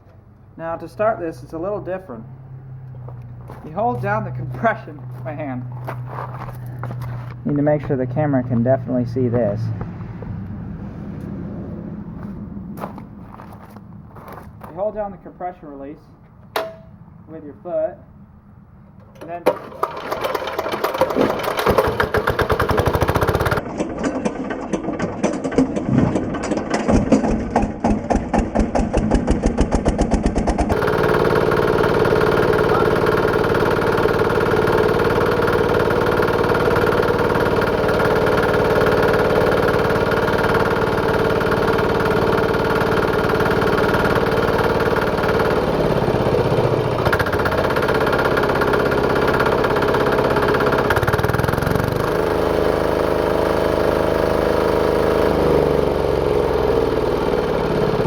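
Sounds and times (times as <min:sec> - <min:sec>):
diesel engine starting and running: 0:00.0 - 0:58.0.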